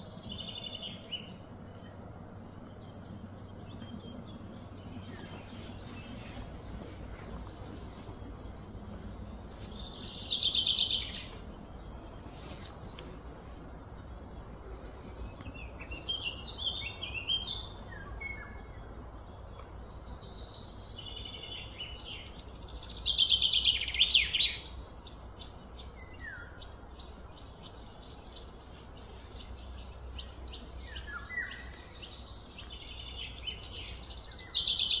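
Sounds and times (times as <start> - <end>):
birds singing trilled phrases: 0.0 - 35.0.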